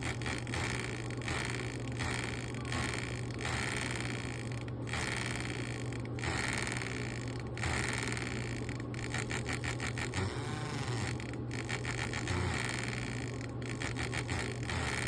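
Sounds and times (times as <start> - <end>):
fan motor hum: 0.0 - 15.0.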